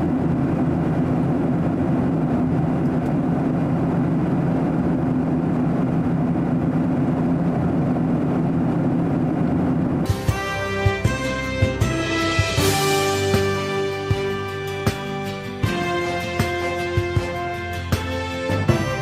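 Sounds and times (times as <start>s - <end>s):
jet engine cabin drone: 0.0s - 19.0s
low hum: 0.0s - 19.0s.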